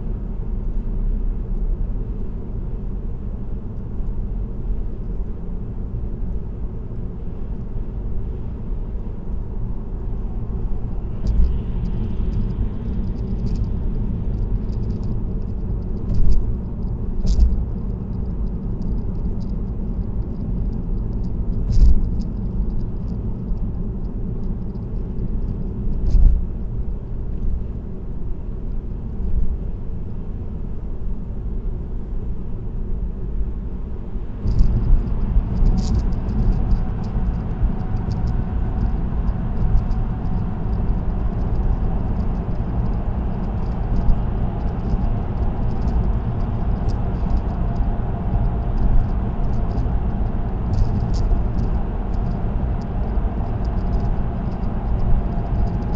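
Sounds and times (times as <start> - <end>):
car road and tyre noise: 0.0 - 55.9.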